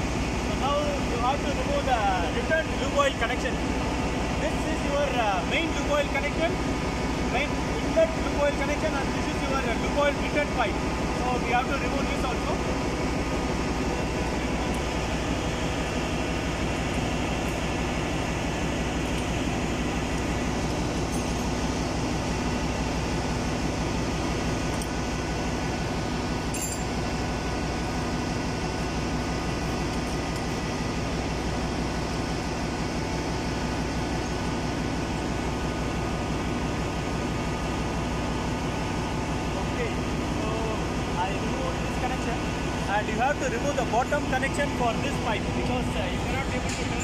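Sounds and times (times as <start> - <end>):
engine-room machinery drone: 0.0 - 47.0.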